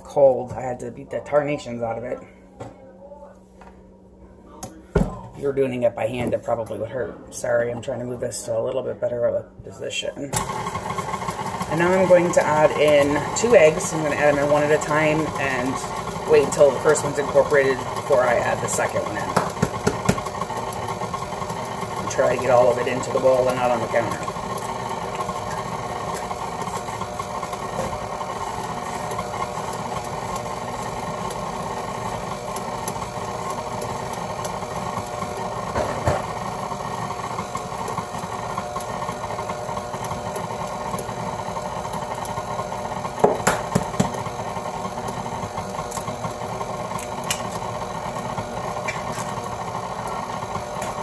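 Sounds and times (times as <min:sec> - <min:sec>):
stand mixer running: 0:10.0 - 0:51.0.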